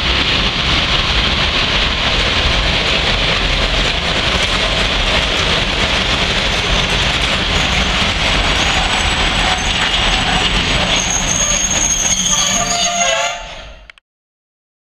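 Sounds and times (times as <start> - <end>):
freight train wheels rolling: 0.0 - 14.0.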